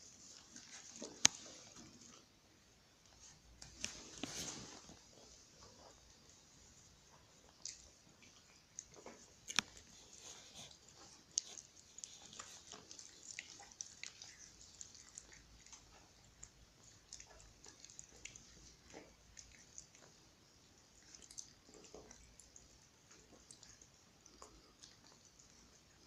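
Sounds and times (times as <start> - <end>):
puppies licking fingers: 0.0 - 26.0.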